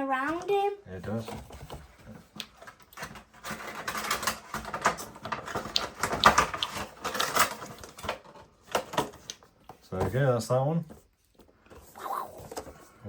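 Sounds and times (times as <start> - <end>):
plastic clicking and rustling: 0.4 - 13.0.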